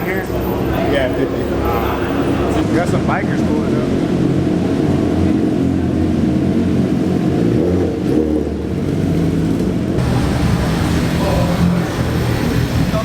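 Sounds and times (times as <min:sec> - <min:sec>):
motorcycle engines at low revs: 0:00.0 - 0:13.0.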